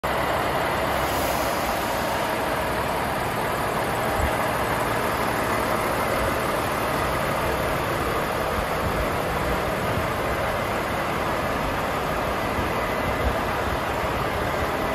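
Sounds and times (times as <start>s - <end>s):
diesel engine idling: 0.0s - 14.9s.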